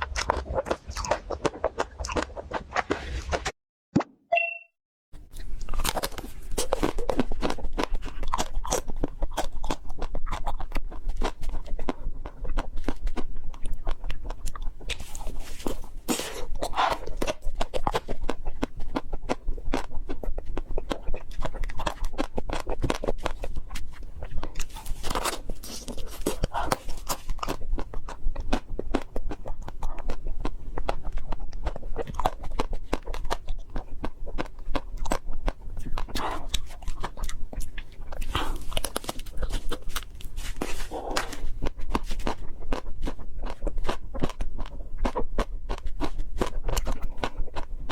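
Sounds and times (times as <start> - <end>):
chewing crunchy chocolate shell: 0.0 - 3.5, 5.3 - 47.9.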